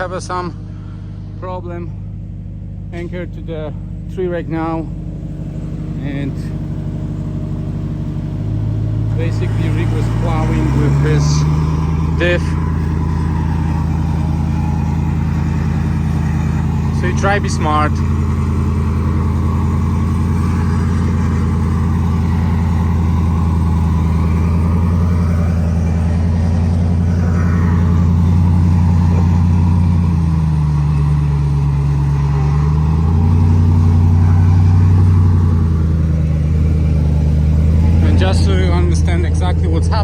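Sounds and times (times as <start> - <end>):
pickup truck engine under load: 0.0 - 40.0.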